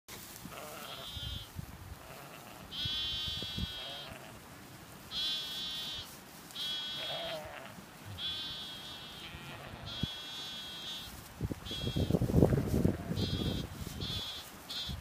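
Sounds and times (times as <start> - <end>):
sheep bleating: 0.5 - 4.4, 5.1 - 11.1, 11.7 - 15.0.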